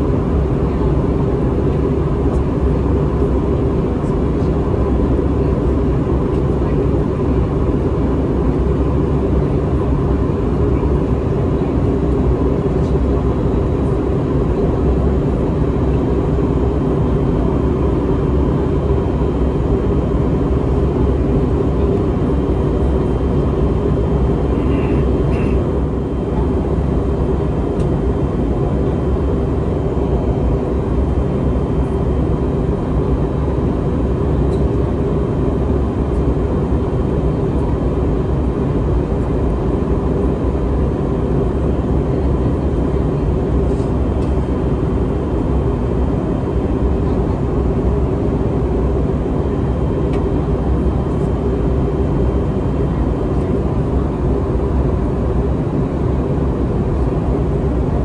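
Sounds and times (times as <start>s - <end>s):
airliner cabin engine hum: 0.0s - 58.0s.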